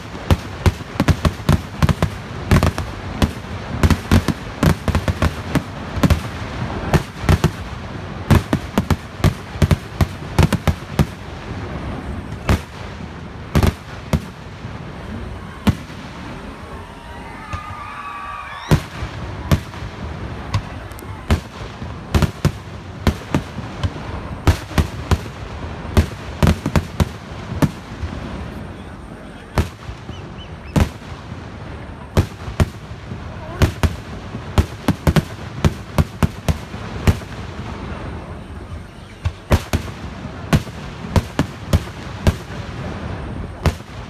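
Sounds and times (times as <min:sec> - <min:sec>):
firecrackers banging: 0:00.0 - 0:44.0.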